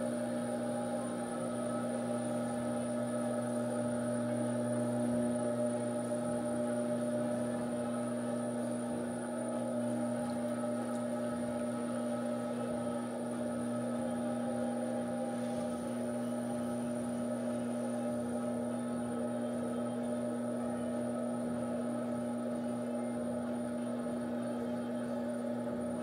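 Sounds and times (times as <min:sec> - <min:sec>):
potter's wheel motor humming: 0:00.0 - 0:26.0.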